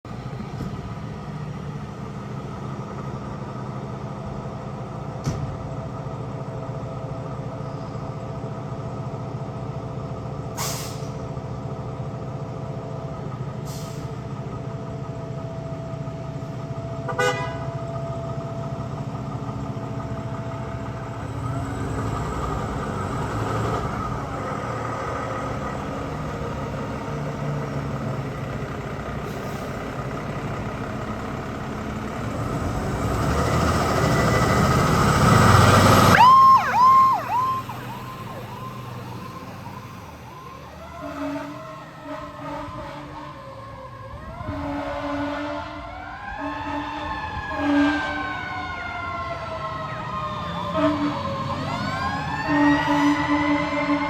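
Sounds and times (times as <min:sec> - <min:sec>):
diesel engine running: 0:00.1 - 0:45.2.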